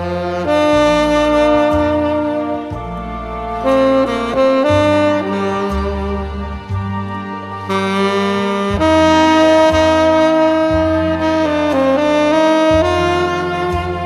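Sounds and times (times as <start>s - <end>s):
backing track bass line: 0.0s - 14.0s
tenor saxophone ballad melody: 0.0s - 14.0s.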